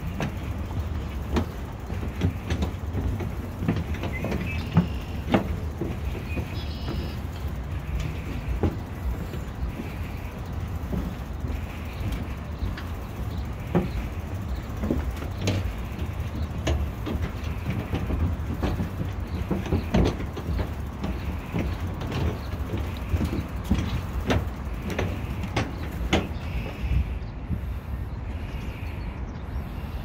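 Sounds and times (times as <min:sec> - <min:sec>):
bicycle rattling over wooden boards: 0:00.0 - 0:28.9.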